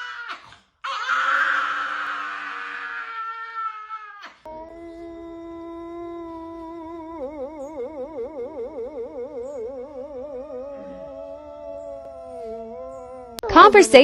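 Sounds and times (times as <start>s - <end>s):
pet howling: 0.0s - 13.4s.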